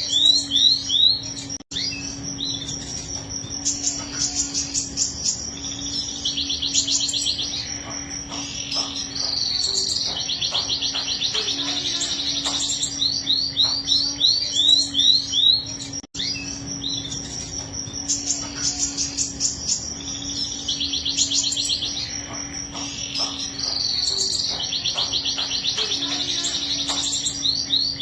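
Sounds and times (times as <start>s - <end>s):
canary singing trills: 0.0s - 28.0s.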